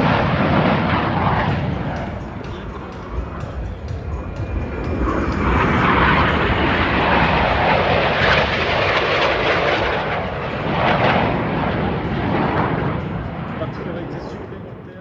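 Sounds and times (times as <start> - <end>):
jets flying past: 0.0 - 14.9.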